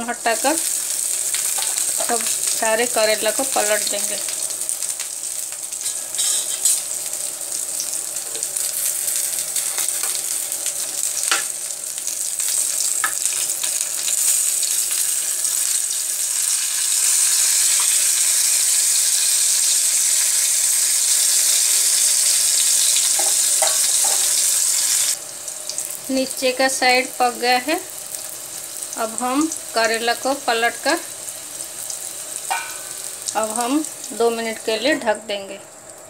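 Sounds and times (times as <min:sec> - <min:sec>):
vegetables sizzling in hot oil: 0:00.0 - 0:36.0.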